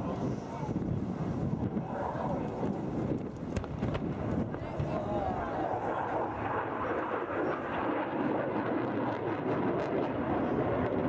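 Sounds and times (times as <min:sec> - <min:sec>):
jet roar flying past: 0:00.0 - 0:11.0.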